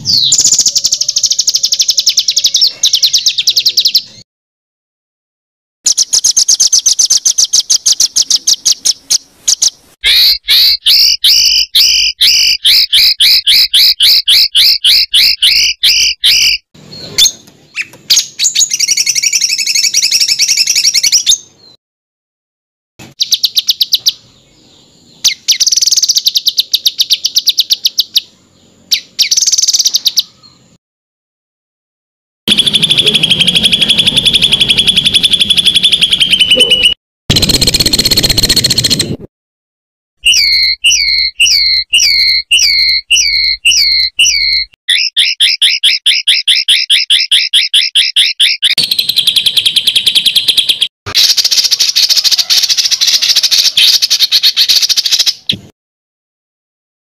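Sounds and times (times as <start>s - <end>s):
songbirds singing rapid notes: 0.0s - 4.2s, 5.9s - 21.8s, 23.0s - 30.8s, 32.5s - 39.3s, 40.2s - 55.7s.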